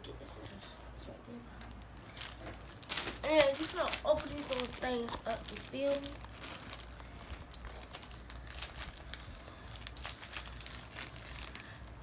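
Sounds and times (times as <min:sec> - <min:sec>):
plastic packaging crinkling: 0:00.4 - 0:12.0.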